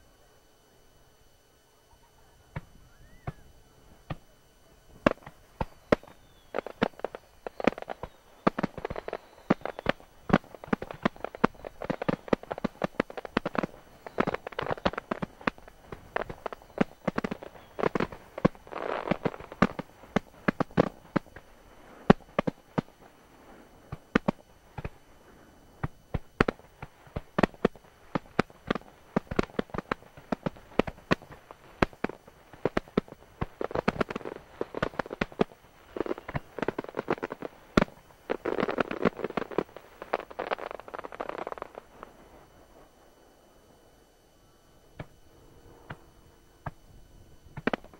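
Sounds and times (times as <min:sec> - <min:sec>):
fireworks bursting: 0:02.5 - 0:43.1, 0:47.5 - 0:47.9
firework crackling: 0:05.0 - 0:43.1, 0:47.5 - 0:47.9.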